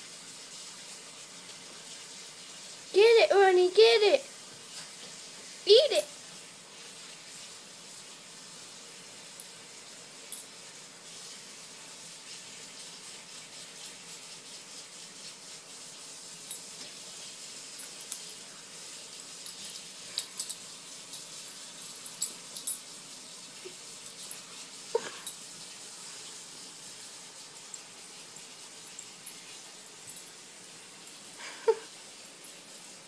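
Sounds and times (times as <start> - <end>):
steady background hiss: 0.0 - 33.0.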